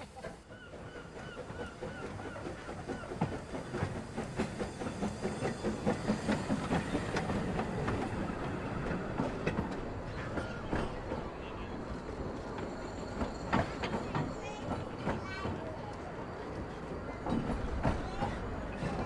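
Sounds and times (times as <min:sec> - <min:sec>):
steam train running: 0:00.0 - 0:19.0.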